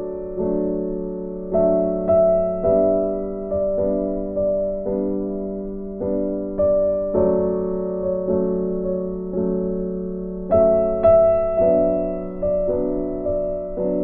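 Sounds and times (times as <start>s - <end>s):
gentle keyboard chords: 0.0s - 14.0s.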